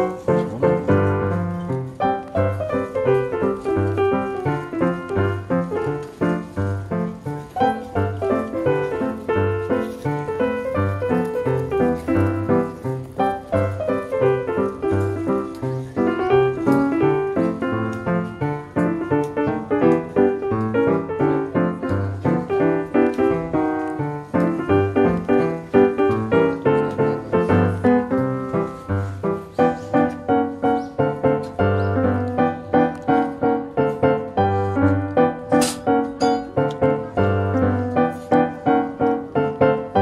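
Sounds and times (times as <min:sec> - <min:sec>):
piano music with steady beat: 0:00.0 - 0:40.0.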